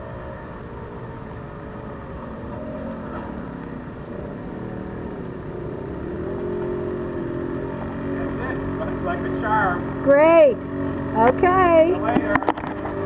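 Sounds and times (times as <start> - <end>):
moped engine running: 0.0 - 13.0.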